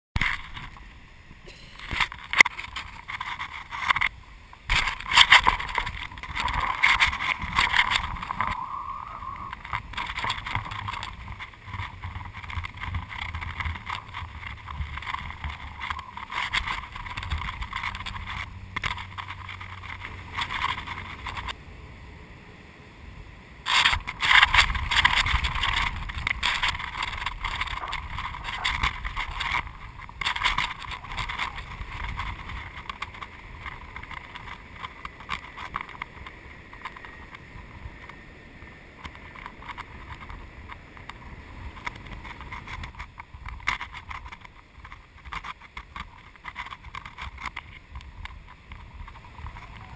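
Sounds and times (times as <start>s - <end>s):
wind buffeting camera: 0.2s - 22.1s, 23.2s - 49.9s.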